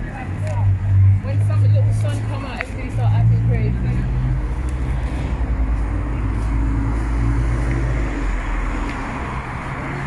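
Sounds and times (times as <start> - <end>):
passing vehicles engine hum: 0.0 - 10.0.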